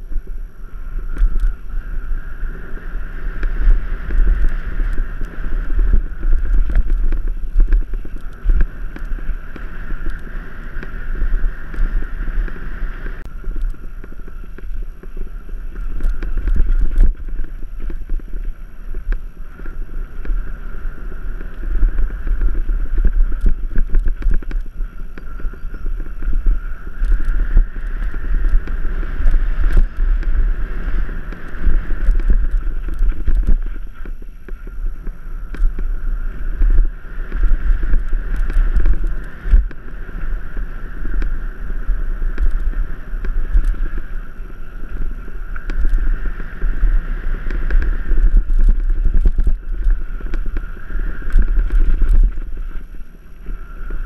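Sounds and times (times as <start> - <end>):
bike rattling over bumps: 0.0 - 54.0
bike tyres on dirt: 0.0 - 54.0
wind buffeting microphone: 0.0 - 54.0.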